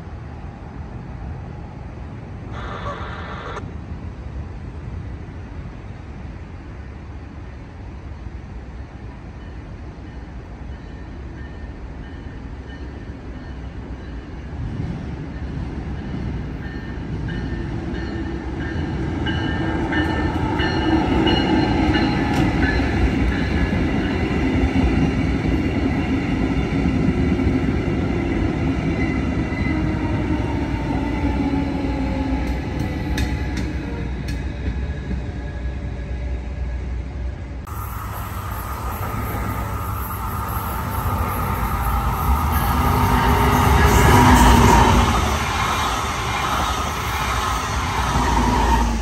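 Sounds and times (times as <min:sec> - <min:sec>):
passenger train passing: 0:00.0 - 0:49.0.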